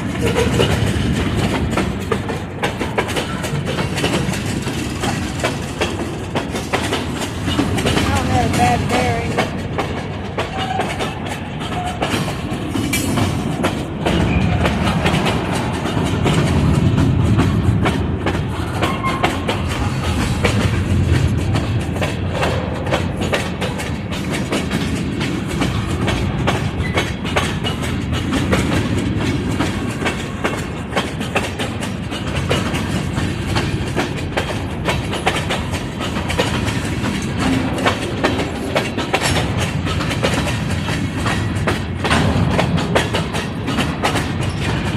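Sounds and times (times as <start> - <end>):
freight cars rumbling: 0.0 - 44.9
wheels clicking over rail joints: 0.0 - 44.9.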